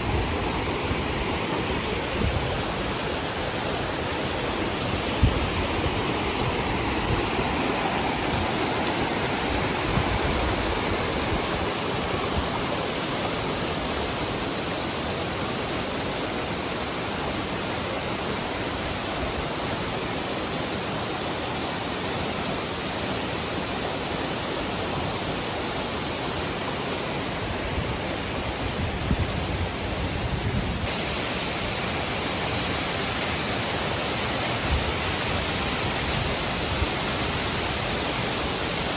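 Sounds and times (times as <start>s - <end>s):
falling water rushing: 0.0s - 30.2s, 30.8s - 38.9s.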